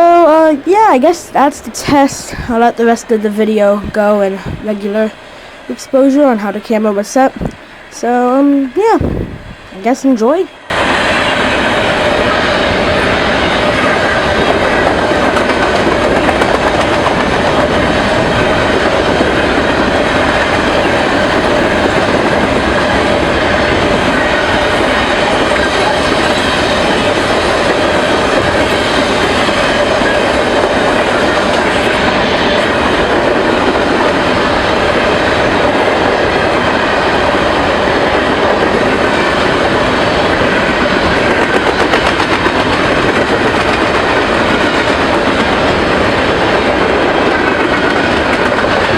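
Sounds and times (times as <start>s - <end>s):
train rumbling over rails: 0.0s - 48.9s.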